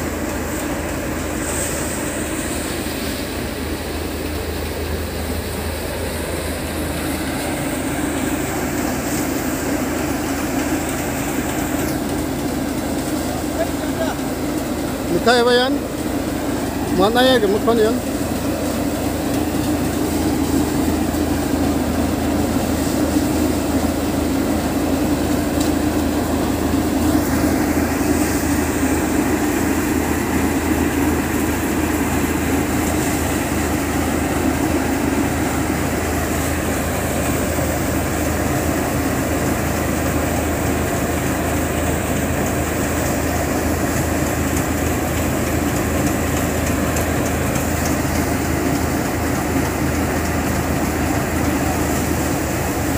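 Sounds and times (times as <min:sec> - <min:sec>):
thresher machine droning: 0:00.0 - 0:52.9.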